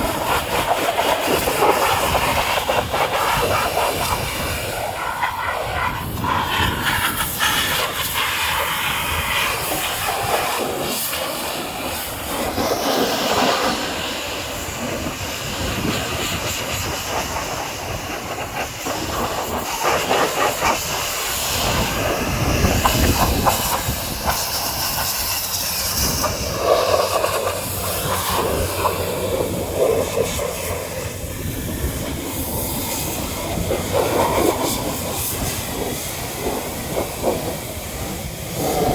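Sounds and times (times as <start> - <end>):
pressure washer jet spraying: 0.0 - 38.9.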